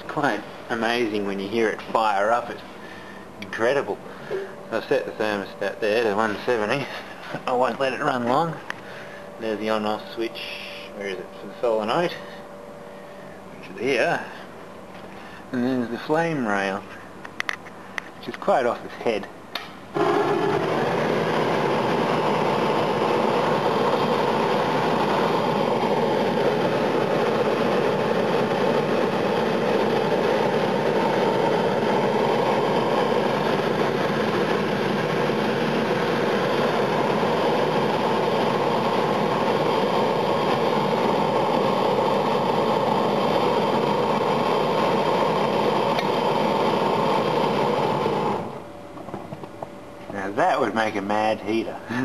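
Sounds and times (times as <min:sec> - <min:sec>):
gas burner rushing: 0:00.0 - 0:16.8, 0:17.4 - 0:52.0.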